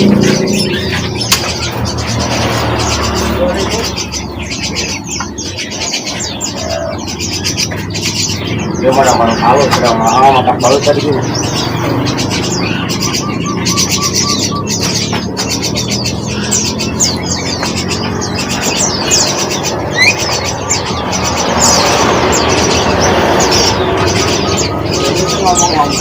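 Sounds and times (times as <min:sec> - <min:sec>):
songbirds chirping and twittering: 0:00.0 - 0:26.0.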